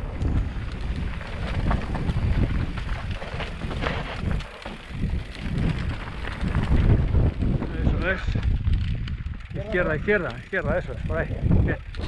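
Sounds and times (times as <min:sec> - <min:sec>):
mountain bike rattling: 0:00.0 - 0:12.0
wind buffeting microphone: 0:00.0 - 0:12.0.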